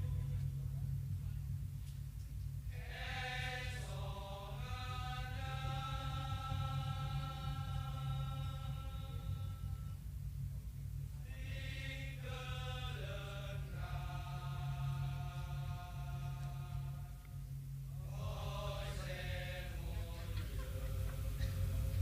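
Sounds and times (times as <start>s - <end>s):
slow music of long held notes: 0.0s - 22.0s
steady low hum: 0.0s - 22.0s.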